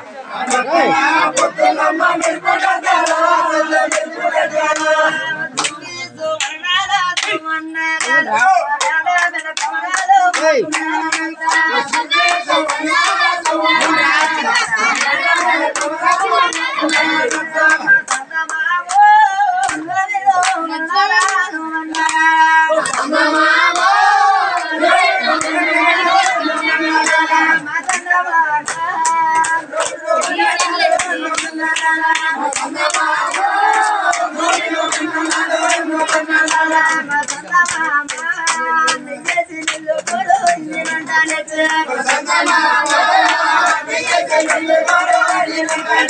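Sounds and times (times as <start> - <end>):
group clapping in rhythm: 0.0 - 46.0
voices singing along: 0.0 - 46.0.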